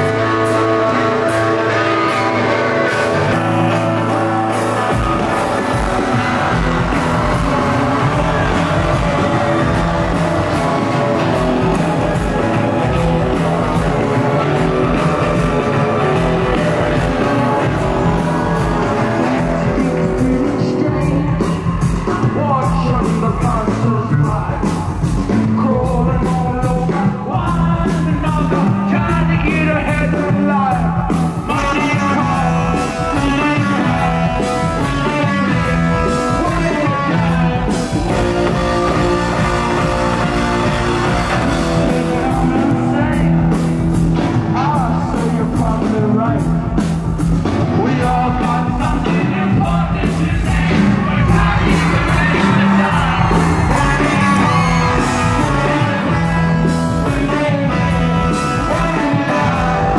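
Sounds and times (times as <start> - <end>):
person singing: 0.0 - 46.8, 47.5 - 59.9
rock band playing: 0.0 - 59.9.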